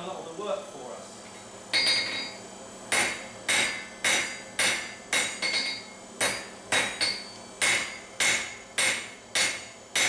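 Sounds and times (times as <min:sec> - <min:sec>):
hammer striking steel on anvil: 0:01.7 - 0:10.0.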